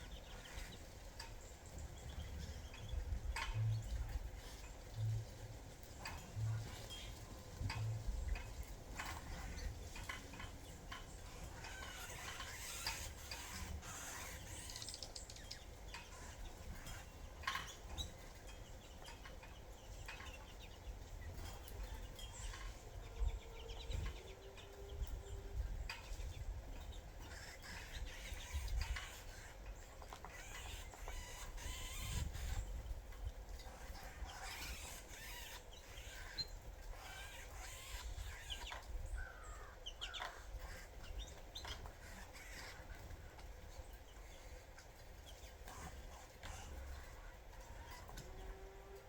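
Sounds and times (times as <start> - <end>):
birds pecking seeds: 0.0 - 49.0.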